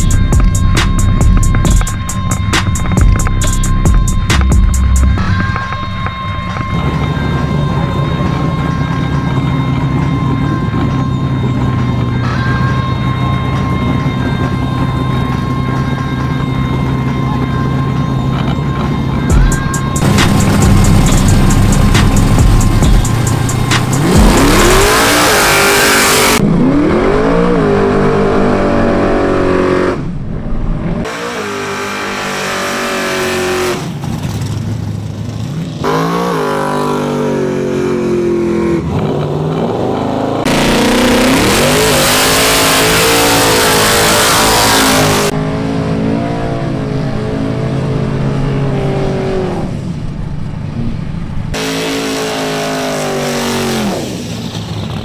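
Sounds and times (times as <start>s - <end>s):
drag car engines revving: 0.0s - 55.0s.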